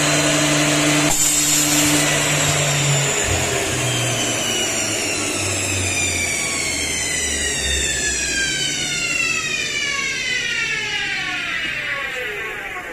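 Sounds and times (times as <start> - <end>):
milling machine motor hum: 0.0 - 12.9
high whine falling in pitch: 1.6 - 12.9.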